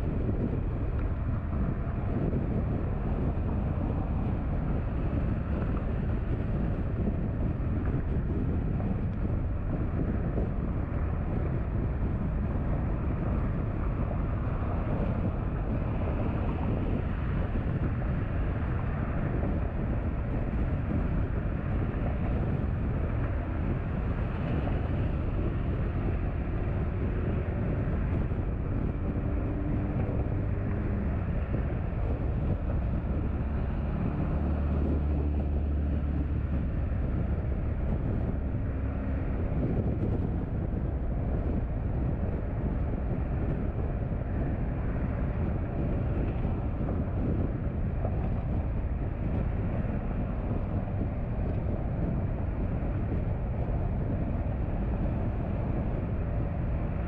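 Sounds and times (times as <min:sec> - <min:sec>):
car driving: 0:00.0 - 0:57.0
deep engine drone: 0:00.0 - 0:57.0.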